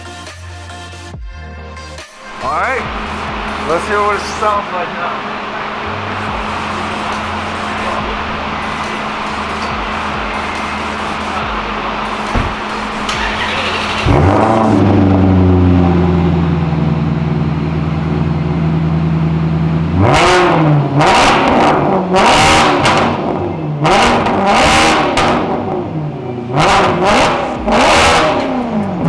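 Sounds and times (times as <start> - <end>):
car engine idling: 1.0 - 29.0
engine throttle blips: 2.0 - 29.0.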